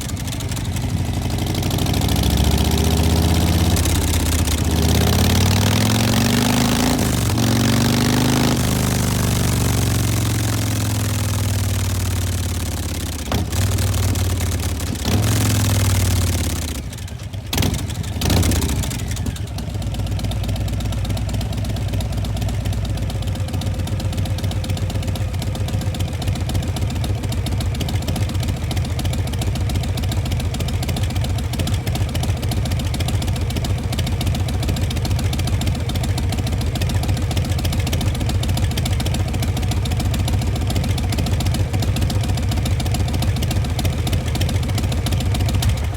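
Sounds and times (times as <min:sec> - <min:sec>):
motorcycle engine revving and idling: 0:00.0 - 0:45.9.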